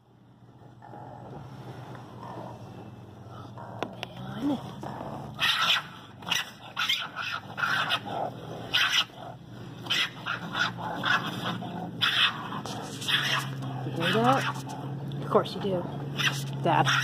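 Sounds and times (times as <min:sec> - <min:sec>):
raccoons crying and snarling: 0:00.3 - 0:17.0.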